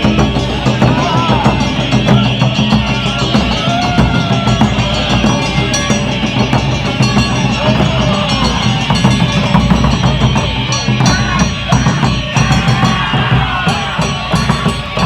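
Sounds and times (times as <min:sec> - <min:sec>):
crowd voices: 0:00.0 - 0:15.0
taiko drums playing: 0:00.0 - 0:15.0.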